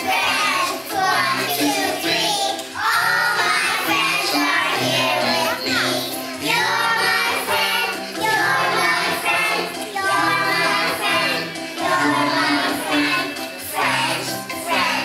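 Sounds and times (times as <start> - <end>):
girls singing together: 0.0 - 15.0.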